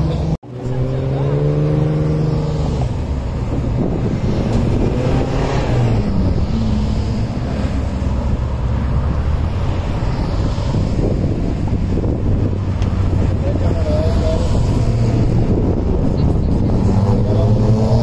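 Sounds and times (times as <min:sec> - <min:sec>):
car engine: 0:00.0 - 0:18.0
wind rumbling on microphone: 0:00.7 - 0:18.0.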